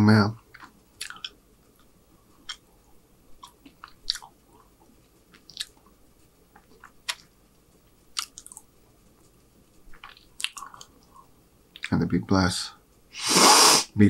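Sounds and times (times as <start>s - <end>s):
man chewing food: 0.4s - 11.9s.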